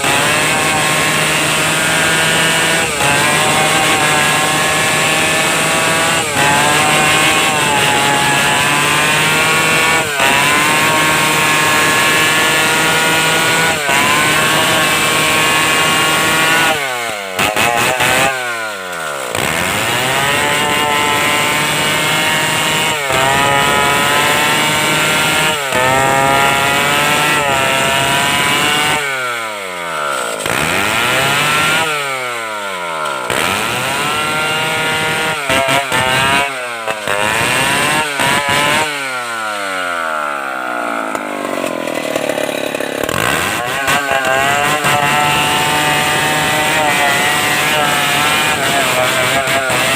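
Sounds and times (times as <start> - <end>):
chainsaw sawing timber: 0.0 - 49.9.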